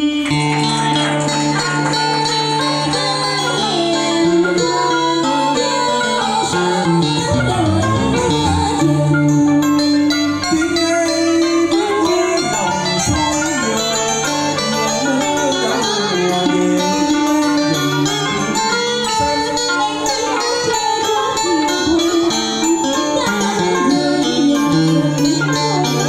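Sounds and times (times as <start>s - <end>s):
keyboard and electric guitar melody: 0.0s - 26.0s.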